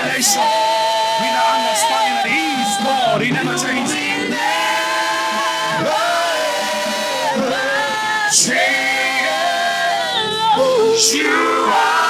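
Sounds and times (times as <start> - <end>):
congregation singing: 0.0 - 12.0.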